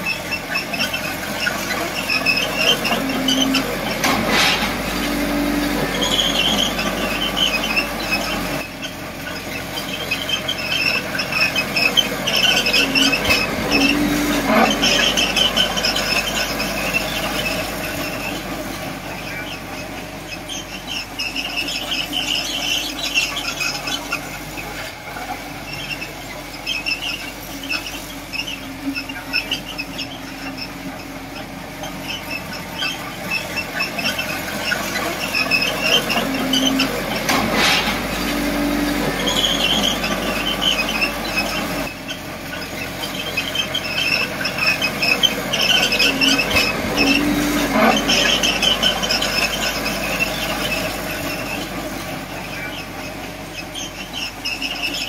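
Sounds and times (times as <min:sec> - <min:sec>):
bulldozer tracks squealing: 0:00.0 - 0:55.0
diesel engine running: 0:00.0 - 0:55.0.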